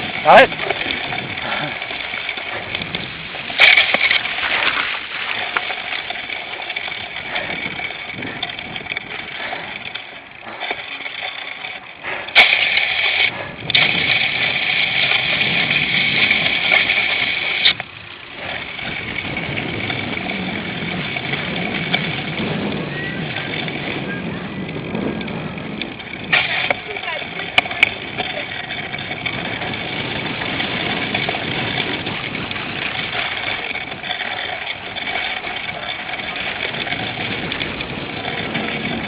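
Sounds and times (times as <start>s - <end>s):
bike rattling over rough ground: 0.0s - 39.0s
rushing wind: 0.0s - 39.0s.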